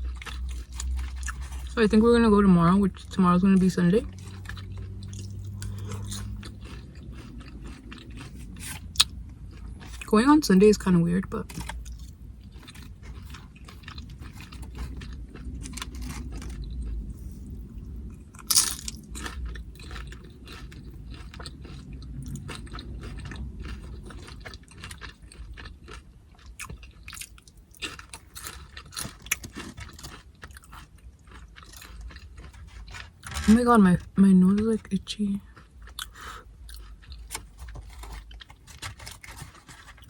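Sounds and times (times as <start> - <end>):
person crunching chips: 0.0 - 2.2, 2.9 - 10.1, 10.9 - 34.1, 35.4 - 40.0.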